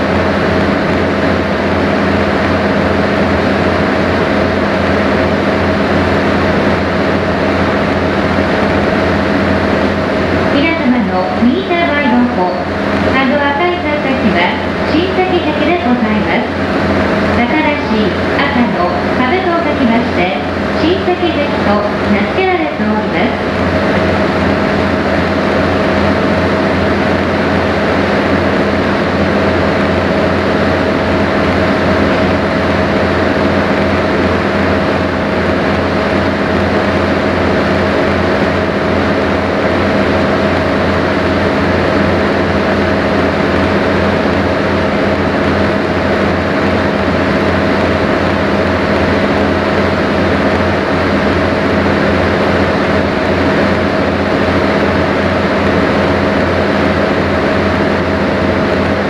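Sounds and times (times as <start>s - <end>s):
boat engine drone: 0.0s - 59.0s.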